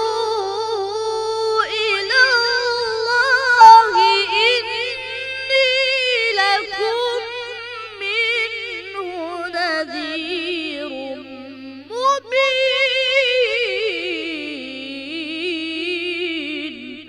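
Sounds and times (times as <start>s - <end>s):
boy reciting melodically: 0.0s - 17.0s.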